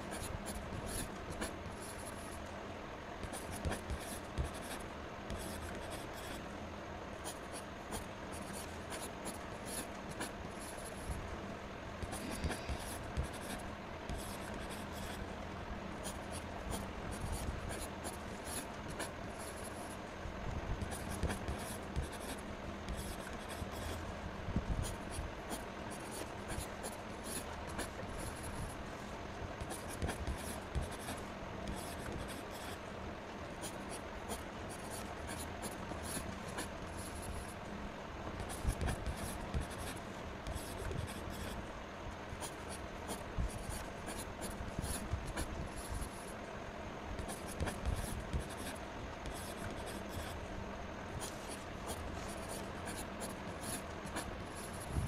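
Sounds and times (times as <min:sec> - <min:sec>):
pen scratching on paper: 0:00.0 - 0:02.4, 0:03.2 - 0:06.4, 0:07.2 - 0:11.2, 0:12.0 - 0:15.3, 0:16.0 - 0:20.0, 0:20.8 - 0:24.0, 0:24.8 - 0:28.7, 0:29.6 - 0:32.8, 0:33.6 - 0:37.5, 0:38.4 - 0:41.6, 0:42.4 - 0:46.3, 0:47.2 - 0:50.4, 0:51.2 - 0:55.0.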